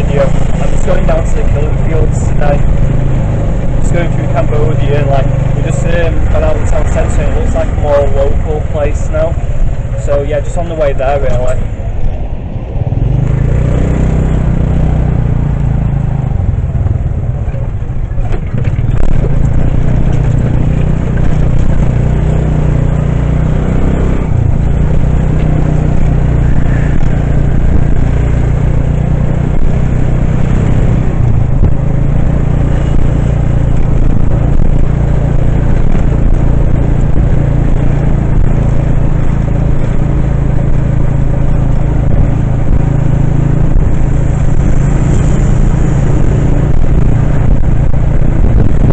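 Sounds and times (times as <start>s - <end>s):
motorcycle engine running: 0.0s - 48.9s
road noise: 0.0s - 48.9s.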